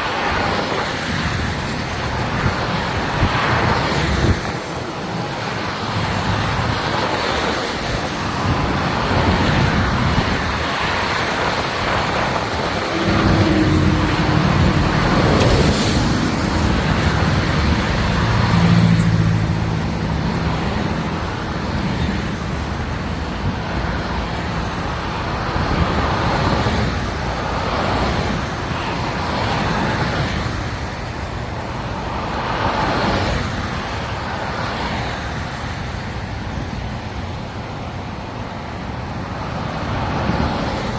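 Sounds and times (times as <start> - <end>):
heavy vehicle engine hum: 0.0 - 40.9
highway traffic roar: 0.0 - 40.9.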